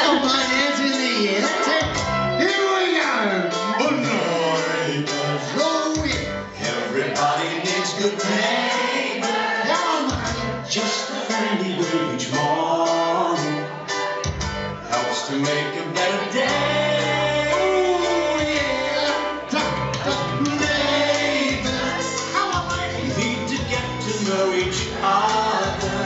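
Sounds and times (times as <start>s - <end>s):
bass line: 0.0s - 7.4s, 10.1s - 10.9s, 12.3s - 26.0s
pop song with singing: 0.0s - 26.0s.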